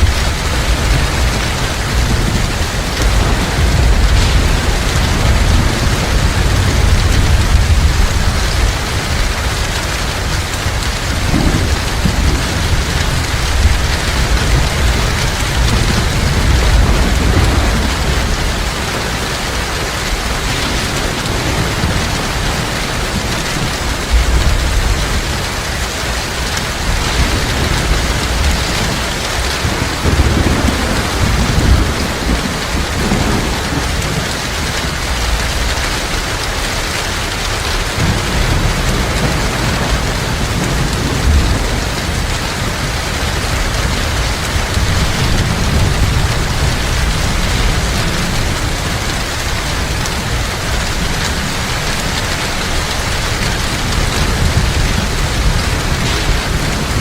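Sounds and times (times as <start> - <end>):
heavy rain pouring: 0.0 - 57.0
low rolling thunder: 0.0 - 57.0.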